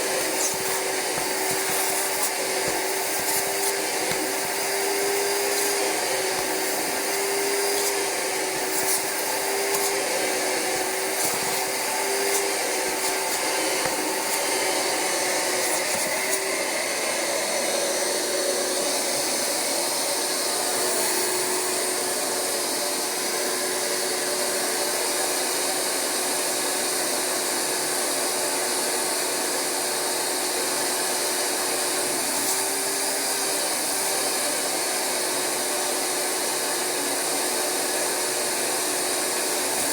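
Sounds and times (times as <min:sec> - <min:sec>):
carpet cleaner vacuum motor humming: 0:00.0 - 0:39.9.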